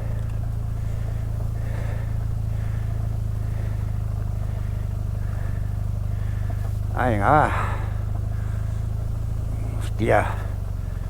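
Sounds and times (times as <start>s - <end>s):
motorcycle engine low drone: 0.0s - 11.0s
tyre noise on gravel: 0.0s - 11.0s.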